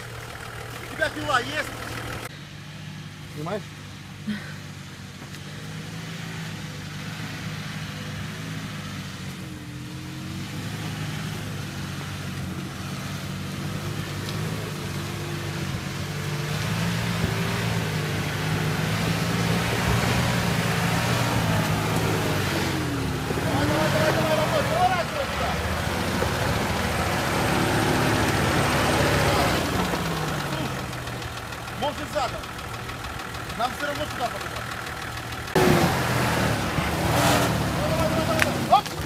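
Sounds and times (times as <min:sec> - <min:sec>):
off-road vehicle engine at low revs: 0:00.0 - 0:39.0.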